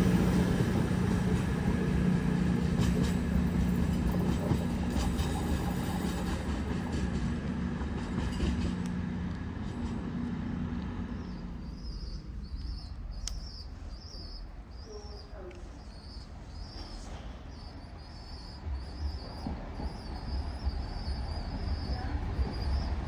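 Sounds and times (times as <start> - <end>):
train engines humming: 0.0 - 23.0.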